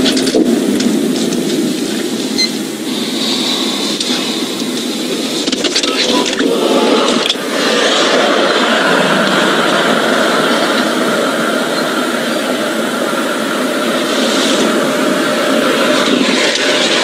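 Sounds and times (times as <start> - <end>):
highway road noise: 0.0 - 17.0.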